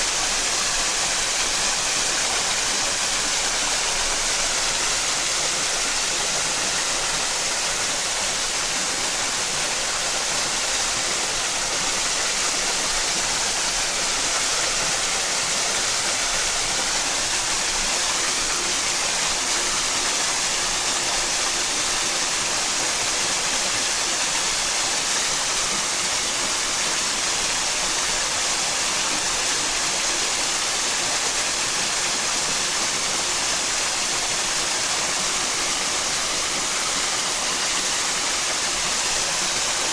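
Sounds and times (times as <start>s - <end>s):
stream rushing water: 0.0s - 39.9s.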